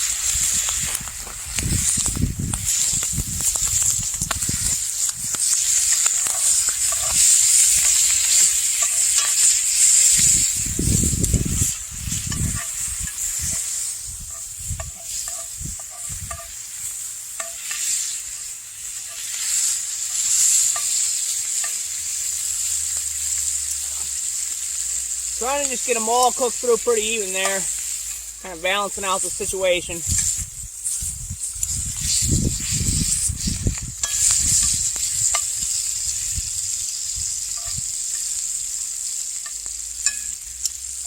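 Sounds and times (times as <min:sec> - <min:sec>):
food sizzling in a pan: 0:00.0 - 0:41.0.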